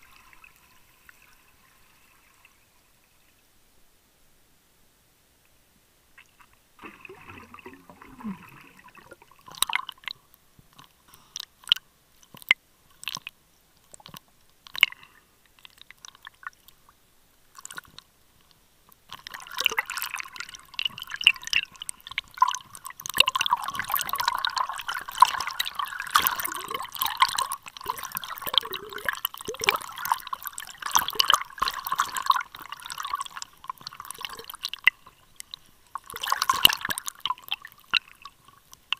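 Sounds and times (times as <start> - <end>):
underwater crackling and bubbling: 0.0 - 3.5, 6.1 - 38.9.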